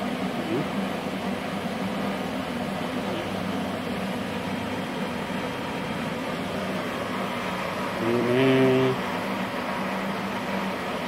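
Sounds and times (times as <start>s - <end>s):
machinery whirring hum: 0.0s - 11.0s.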